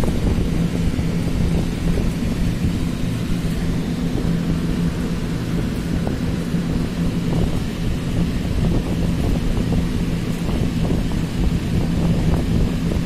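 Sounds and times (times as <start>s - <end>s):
low rumble with hum: 0.0s - 13.0s.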